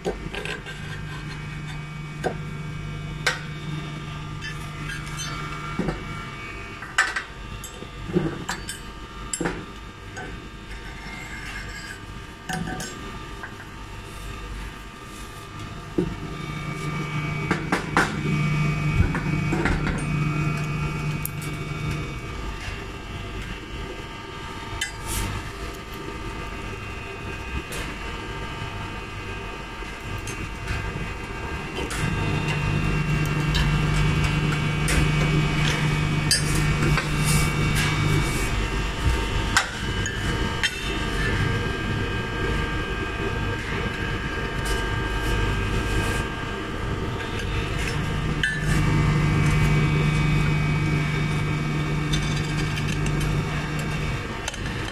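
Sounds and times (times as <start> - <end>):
machine hum: 0.0 - 54.9.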